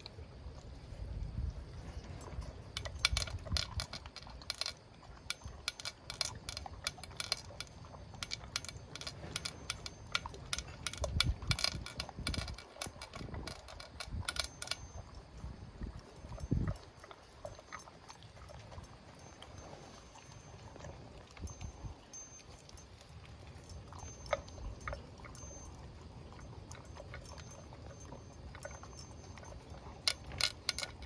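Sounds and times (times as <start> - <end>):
pet crunching food: 0.0 - 31.0.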